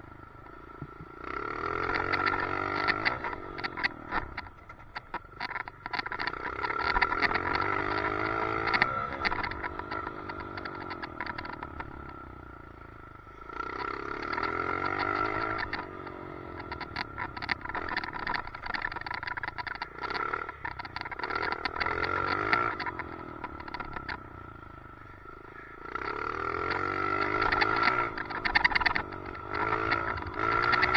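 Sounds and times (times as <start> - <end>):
dirt bike engine revving: 0.5 - 4.4, 5.4 - 12.2, 13.3 - 30.9
rapid clicking and rattling: 1.8 - 12.2, 13.7 - 24.3, 25.5 - 30.9.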